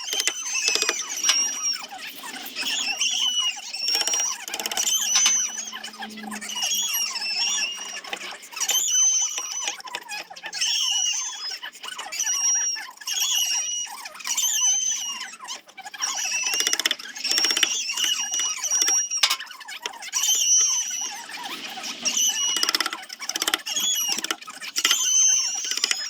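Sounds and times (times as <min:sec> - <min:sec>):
power sander squealing on wood: 0:00.0 - 0:26.0.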